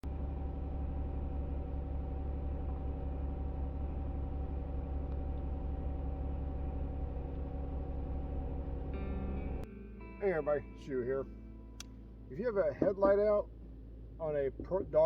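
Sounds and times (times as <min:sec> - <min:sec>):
steady low hum: 0:00.0 - 0:10.0, 0:10.6 - 0:15.0.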